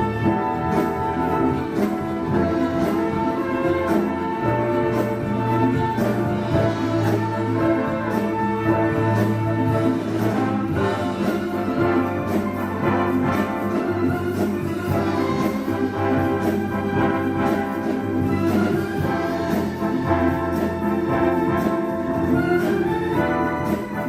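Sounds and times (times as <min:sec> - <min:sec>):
brass: 0:00.0 - 0:24.0
symphony orchestra playing: 0:00.0 - 0:24.0.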